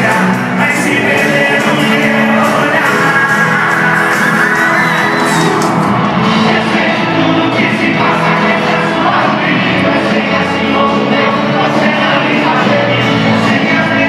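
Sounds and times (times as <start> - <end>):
live band music with drums: 0.0 - 14.0
person singing: 0.0 - 14.0.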